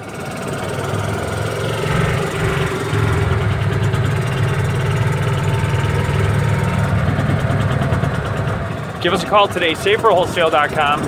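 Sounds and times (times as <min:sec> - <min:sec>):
golf cart engine running: 0:00.0 - 0:11.0.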